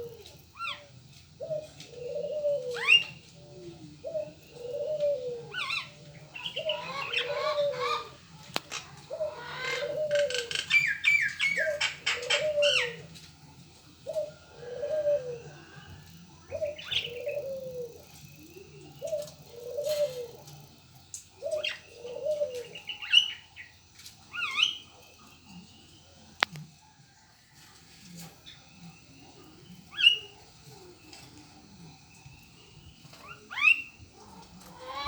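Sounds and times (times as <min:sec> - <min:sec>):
small birds chirping: 0:00.0 - 0:27.2, 0:28.1 - 0:35.0
dove cooing: 0:00.0 - 0:35.0.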